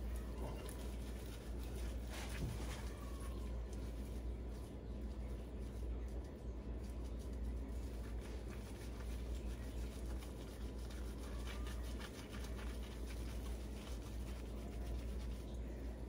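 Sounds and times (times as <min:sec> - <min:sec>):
steady low hum: 0:00.0 - 0:16.0
towel scrubbing wet fur: 0:00.0 - 0:16.0.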